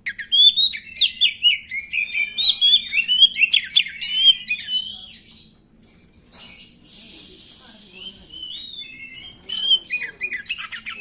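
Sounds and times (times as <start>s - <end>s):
magpie-robin singing: 0.0s - 11.0s.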